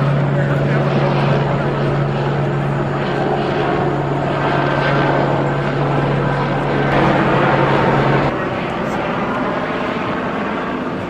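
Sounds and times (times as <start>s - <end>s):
helicopter hovering: 0.0s - 11.0s.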